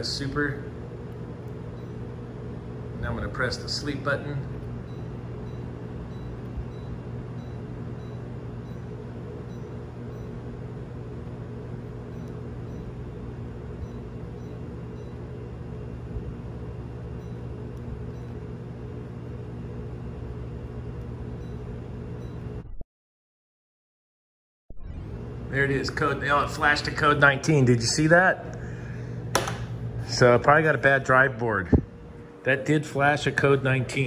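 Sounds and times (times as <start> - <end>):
air conditioner humming: 0.0 - 22.6, 24.9 - 34.0.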